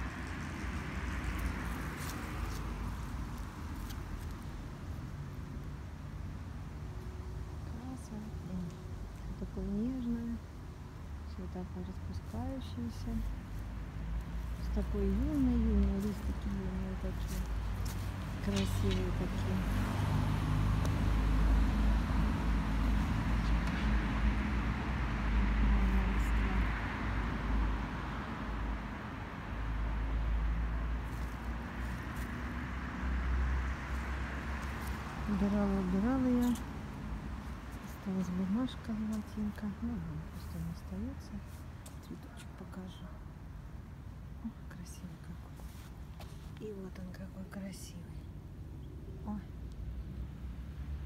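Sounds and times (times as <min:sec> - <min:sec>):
passing cars rumble and hiss: 0:00.0 - 0:51.0.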